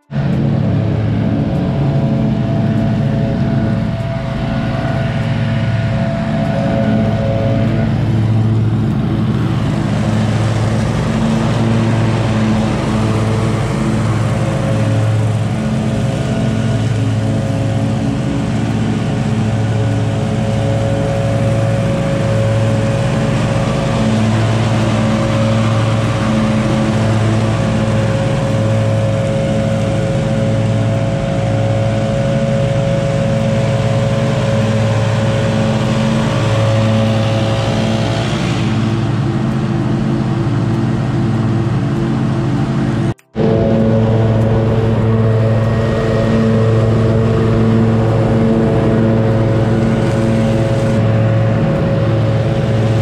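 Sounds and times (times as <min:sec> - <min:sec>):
mower engine running: 0:00.0 - 0:53.0.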